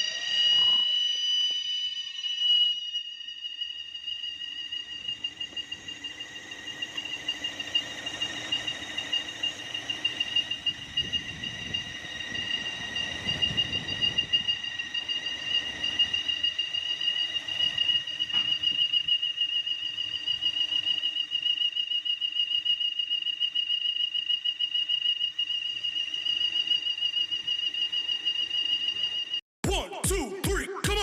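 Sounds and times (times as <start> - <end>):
high-pitched engine whistle: 0.0 - 31.0.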